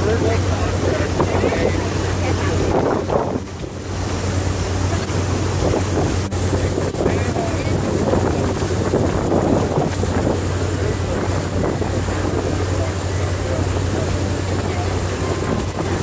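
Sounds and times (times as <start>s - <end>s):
boat engine humming: 0.0s - 16.0s
water rushing along hull: 0.0s - 16.0s
wind buffeting microphone: 0.0s - 16.0s.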